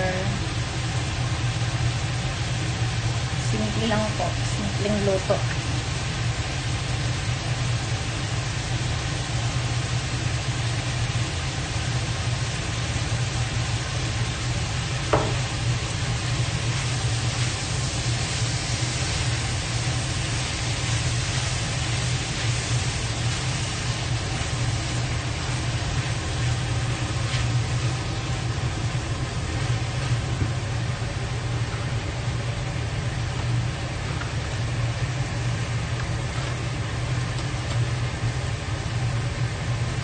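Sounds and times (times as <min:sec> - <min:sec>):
food sizzling in a wok: 0:00.0 - 0:40.0
steady low hum: 0:00.0 - 0:40.0.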